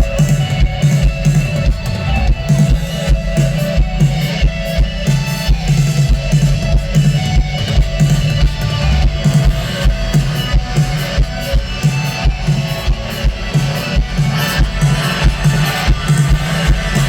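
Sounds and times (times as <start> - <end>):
drum kit beat: 0.0 - 17.0
rock guitar: 0.0 - 17.0.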